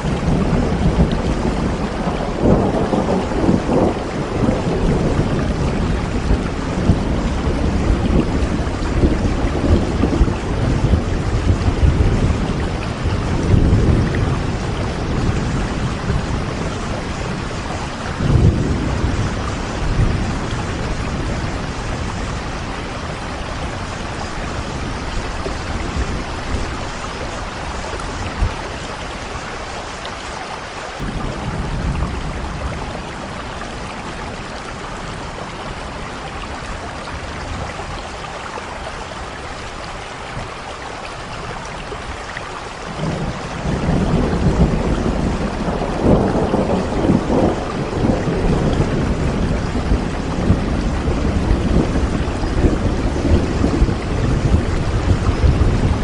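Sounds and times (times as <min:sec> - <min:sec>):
thunder rumbling: 0:00.0 - 0:30.0, 0:31.0 - 0:42.1, 0:42.7 - 0:56.0
steady rain falling: 0:00.0 - 0:56.0.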